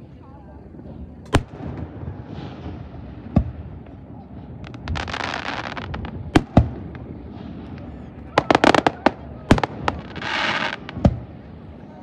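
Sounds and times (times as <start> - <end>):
fireworks bursting with bangs: 1.3 - 11.8.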